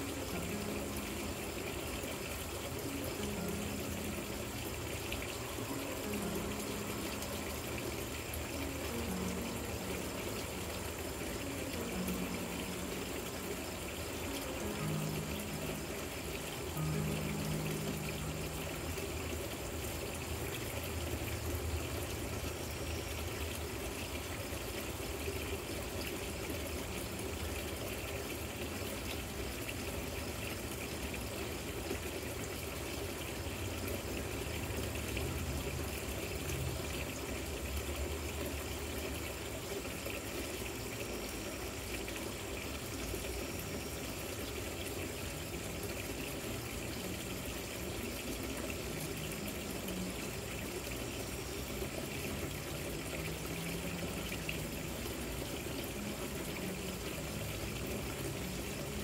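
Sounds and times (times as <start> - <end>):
fountain water trickling: 0.0 - 59.0.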